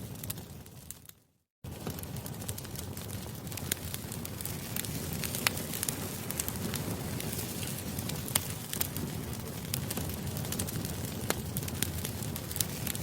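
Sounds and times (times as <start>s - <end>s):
fire snapping and popping: 0.0s - 13.0s
rush of burning wood: 0.0s - 13.0s.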